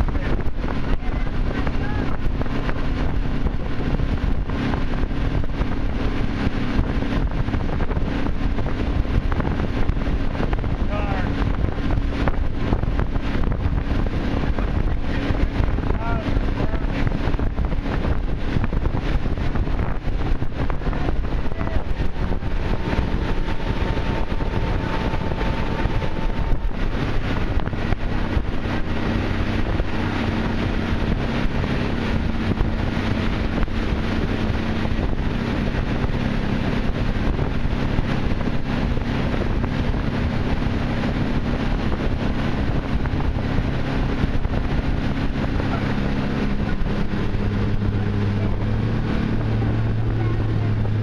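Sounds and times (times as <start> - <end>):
boat engine running: 0.0 - 51.0
wind buffeting microphone: 0.0 - 51.0.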